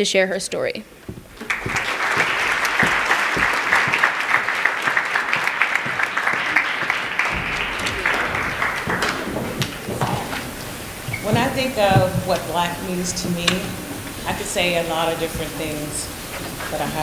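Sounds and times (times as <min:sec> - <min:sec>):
audience applauding: 0:01.0 - 0:17.0.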